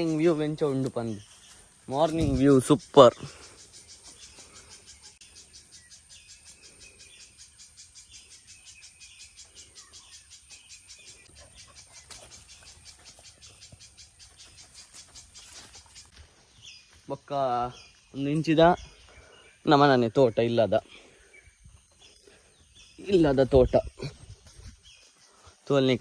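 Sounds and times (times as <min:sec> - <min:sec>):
faint bird calls: 0:00.0 - 0:25.6
insects chirping: 0:00.0 - 0:26.0.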